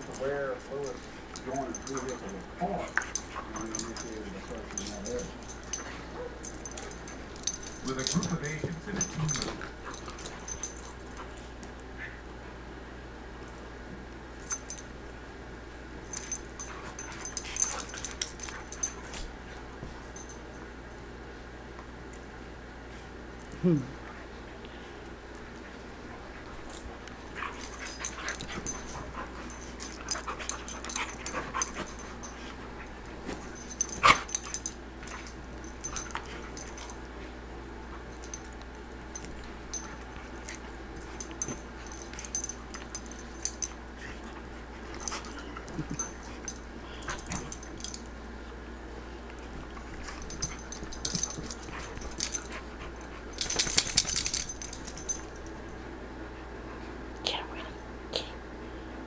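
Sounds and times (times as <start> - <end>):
dogs play-fighting noises: 0.0 - 58.6.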